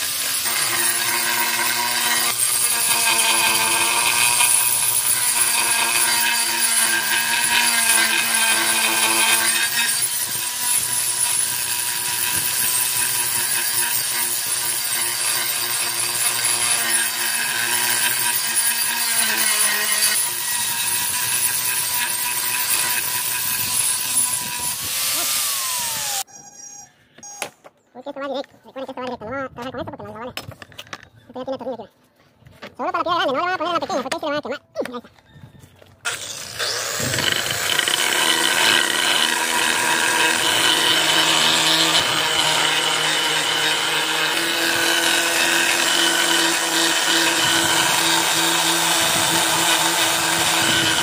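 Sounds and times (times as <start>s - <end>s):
angle grinder grinding stone: 0.0s - 26.9s, 36.1s - 51.0s
grinder winding down: 0.0s - 26.9s, 36.1s - 51.0s.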